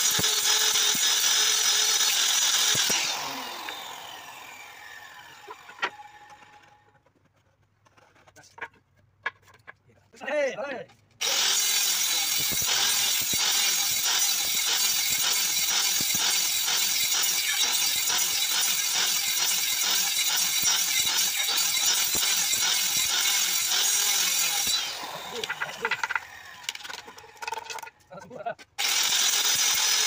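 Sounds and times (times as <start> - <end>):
circular saw cutting wood: 0.0 - 8.4, 11.2 - 30.0.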